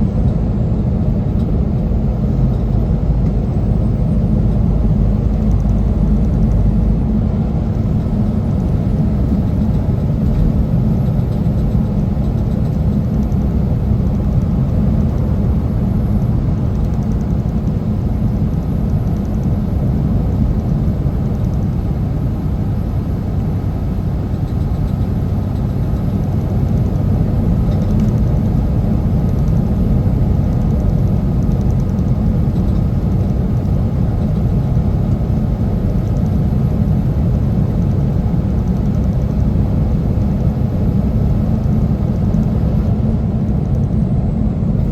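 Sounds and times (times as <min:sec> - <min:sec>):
truck engine and road noise: 0:00.0 - 0:44.9.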